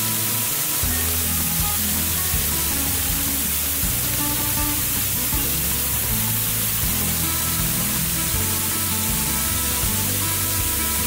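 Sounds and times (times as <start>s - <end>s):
background music: 0.0s - 11.0s
waterfall rushing: 0.0s - 11.0s.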